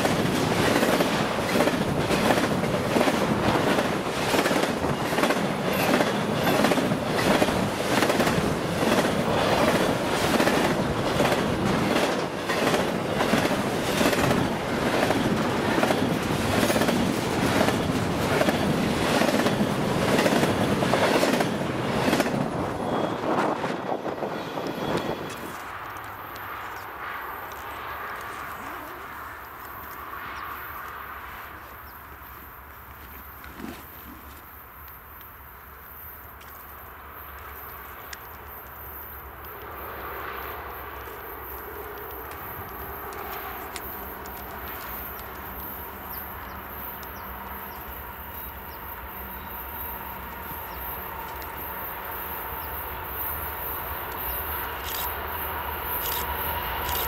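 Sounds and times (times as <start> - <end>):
rail clacks: 0.0 - 31.0, 40.4 - 57.0
train wheels rumbling on rail: 0.0 - 57.0.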